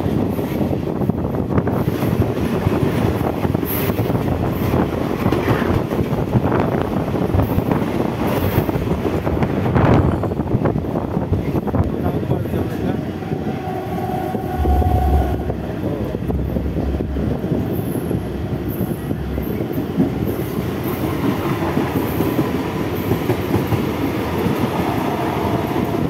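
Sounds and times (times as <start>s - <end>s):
passing train: 0.0s - 26.0s
train wheel rush: 0.0s - 26.0s.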